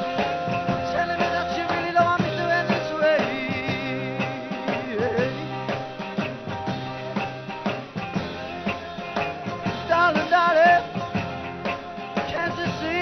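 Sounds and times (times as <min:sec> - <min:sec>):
drum kit beat: 0:00.0 - 0:13.0
electric guitar: 0:00.0 - 0:13.0
man singing: 0:00.0 - 0:13.0.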